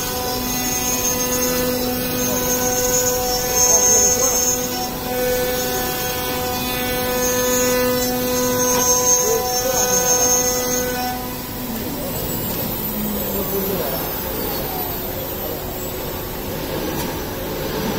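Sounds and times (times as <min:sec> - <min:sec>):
router spindle whine: 0:00.0 - 0:17.9.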